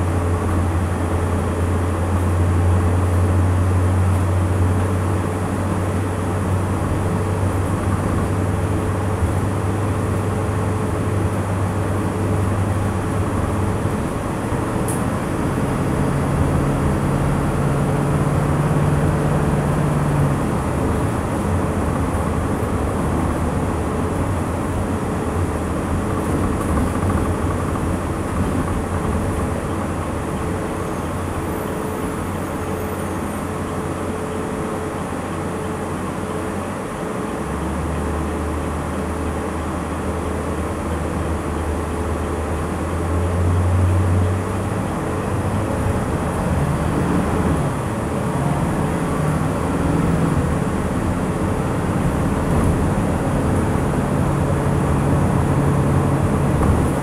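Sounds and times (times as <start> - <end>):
bus engine droning: 0.0 - 57.0
road and rattle noise: 0.0 - 57.0.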